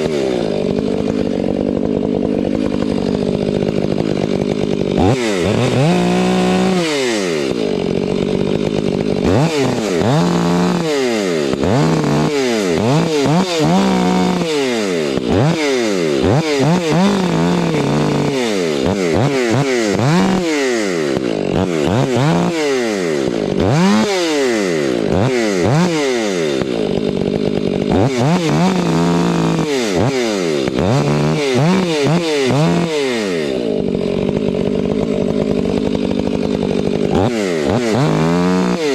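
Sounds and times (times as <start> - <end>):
chainsaw revving while cutting: 0.0 - 38.9.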